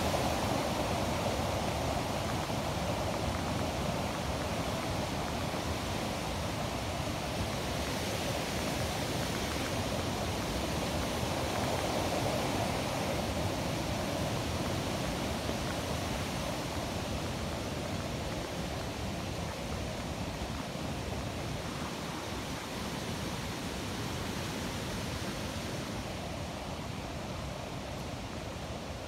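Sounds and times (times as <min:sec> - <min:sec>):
stream rushing: 0:00.0 - 0:29.0.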